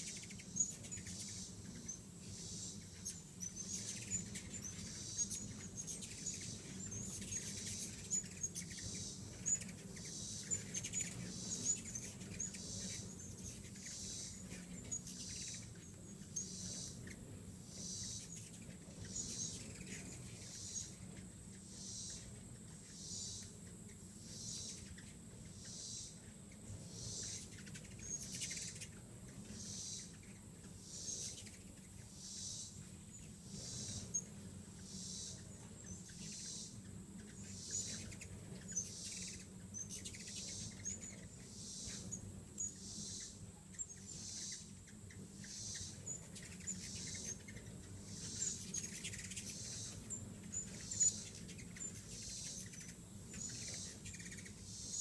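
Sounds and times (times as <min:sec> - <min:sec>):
hummingbirds chirping: 0:00.0 - 0:55.0
pulsing insect chorus: 0:00.0 - 0:55.0.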